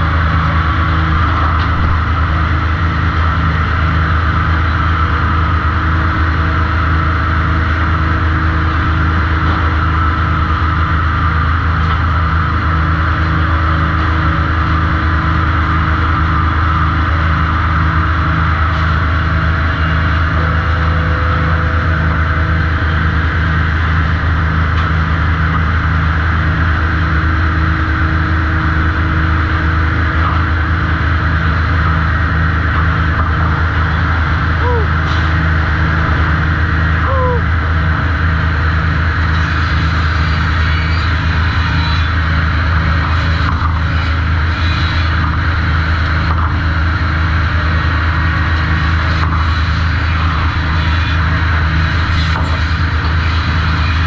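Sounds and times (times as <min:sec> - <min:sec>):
sawmill machinery drone: 0:00.0 - 0:54.0.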